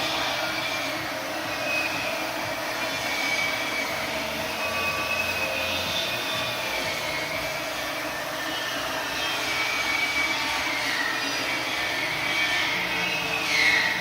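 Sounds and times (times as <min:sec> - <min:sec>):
faint high wavering tone: 0:00.0 - 0:14.0
machine tool cutting metal: 0:00.0 - 0:14.0.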